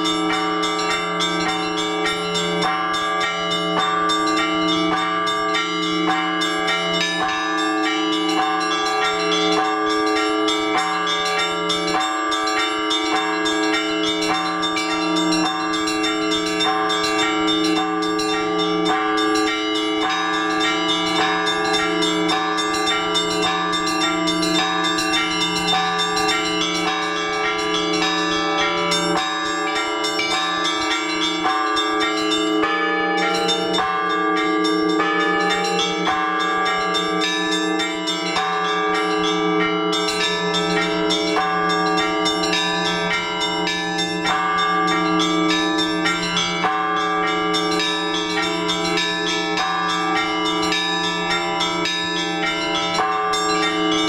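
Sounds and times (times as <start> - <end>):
hum of large bells: 0.0 - 54.0
small bells struck quickly: 0.0 - 54.0.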